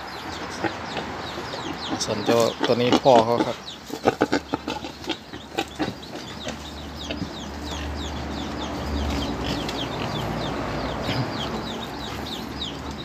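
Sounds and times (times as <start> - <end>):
chickens clucking and chirping: 0.0 - 13.0.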